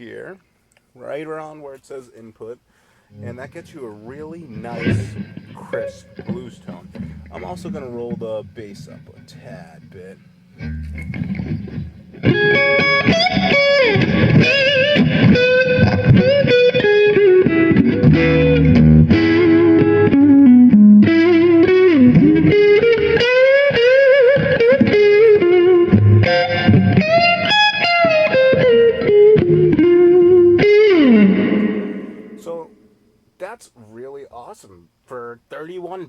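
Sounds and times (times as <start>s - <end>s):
electric guitar blues licks: 3.1s - 33.0s.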